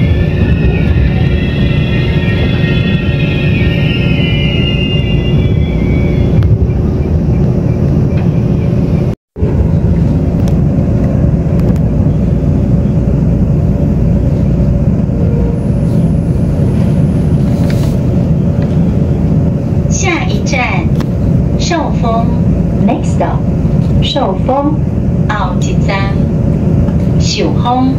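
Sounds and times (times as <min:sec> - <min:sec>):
train low rumble from inside: 0:00.0 - 0:27.9.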